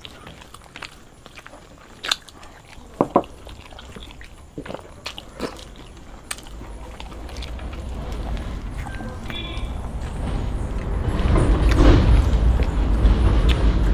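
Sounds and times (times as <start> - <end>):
people chewing: 0.0 - 13.9.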